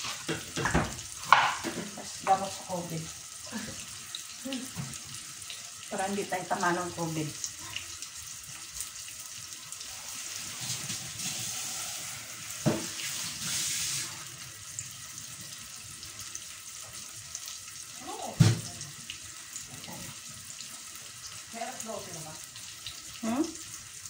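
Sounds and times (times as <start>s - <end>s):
onions frying in oil: 0.0s - 24.0s.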